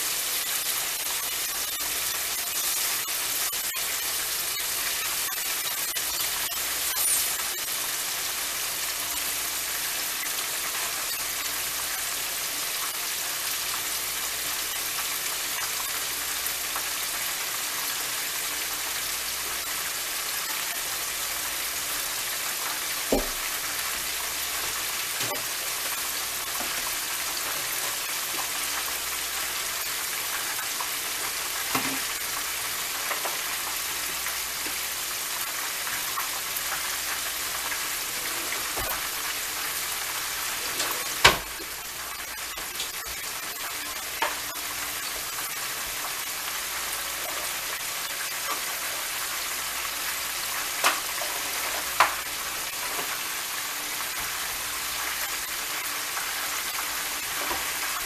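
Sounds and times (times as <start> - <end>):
deep frying sizzle: 0.0 - 58.0.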